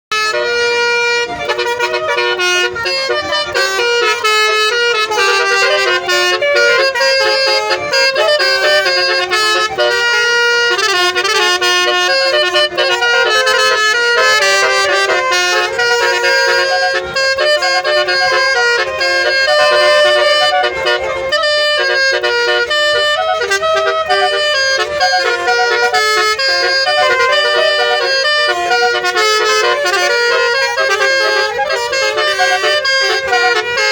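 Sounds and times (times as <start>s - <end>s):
multi-trumpet air horn melody: 0.1s - 33.9s.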